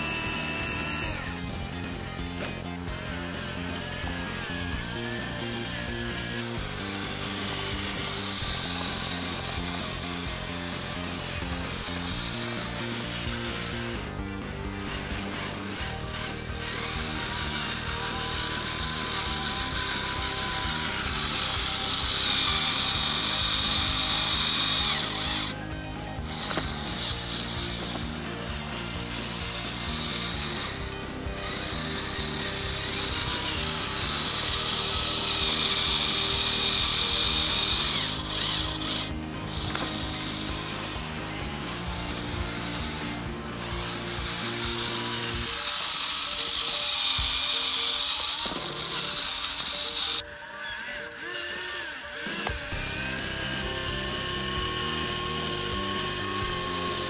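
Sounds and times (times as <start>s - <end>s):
background music: 0.0s - 57.0s
electric motor whining: 0.0s - 57.0s.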